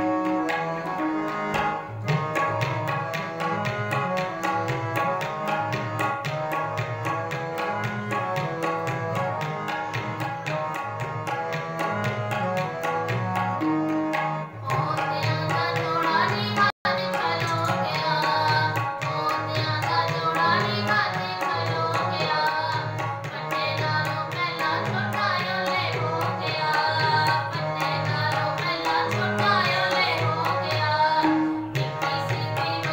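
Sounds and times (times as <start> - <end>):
harmonium melody: 0.0 - 32.9
tabla playing fast rhythm: 0.0 - 32.9.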